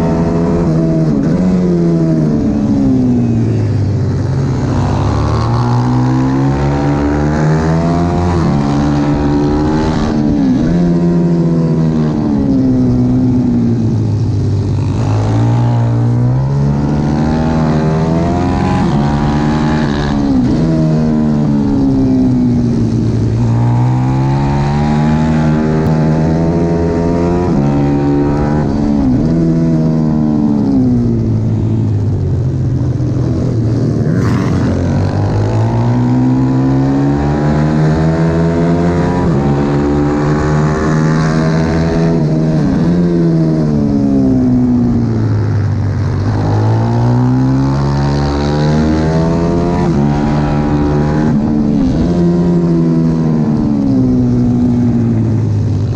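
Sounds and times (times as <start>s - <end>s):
pit bike engine at racing revs: 4.2s - 31.6s, 32.9s - 55.9s.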